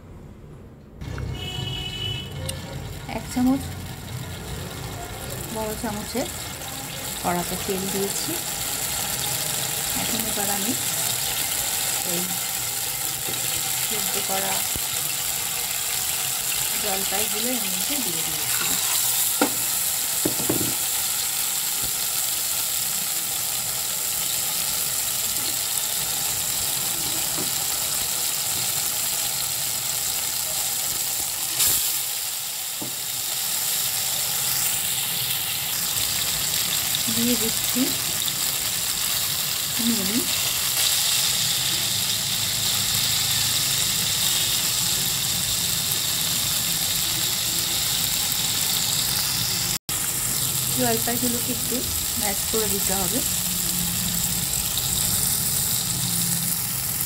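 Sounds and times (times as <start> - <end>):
olives frying in hot oil: 1.2 - 57.0.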